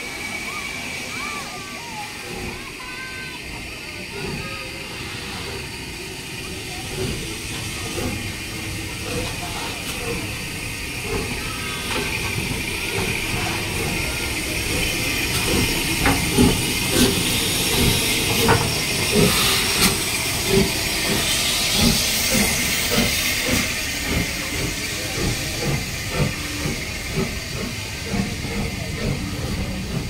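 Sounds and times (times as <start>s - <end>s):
steam hissing: 0.0s - 30.0s
steam locomotive thuds: 4.0s - 30.0s.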